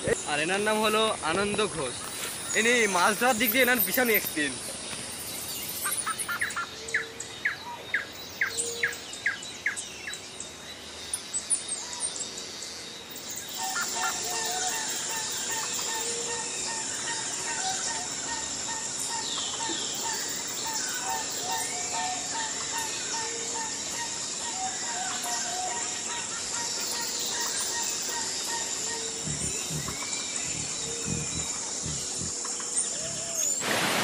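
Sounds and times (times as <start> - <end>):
bird chirping: 0.0 - 33.6.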